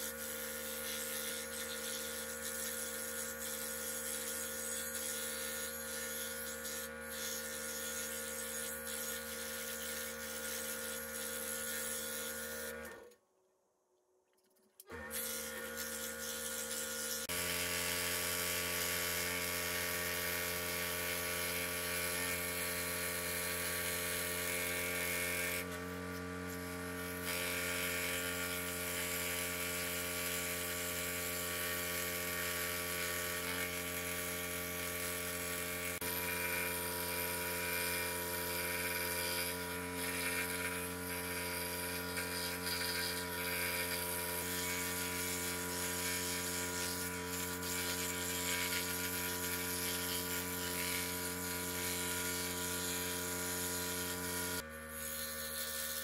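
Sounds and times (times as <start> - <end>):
saw blade cutting wood: 0.0 - 13.1, 14.9 - 56.0
scroll saw motor hum: 0.0 - 13.2, 14.8 - 56.0.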